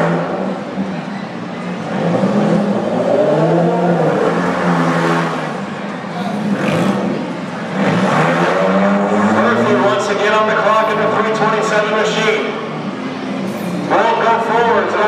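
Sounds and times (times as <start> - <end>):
arena noise: 0.0 - 15.0
car engines revving: 0.0 - 15.0.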